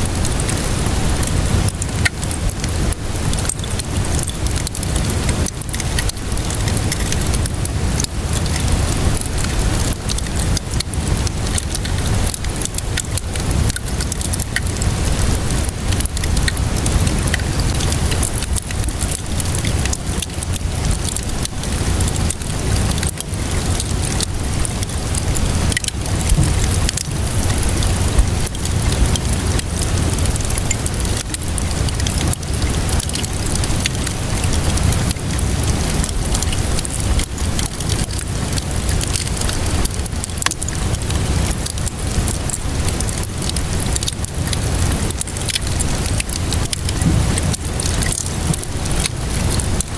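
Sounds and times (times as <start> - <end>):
rain hissing: 0.0 - 49.9
wood fire crackling: 0.0 - 49.9.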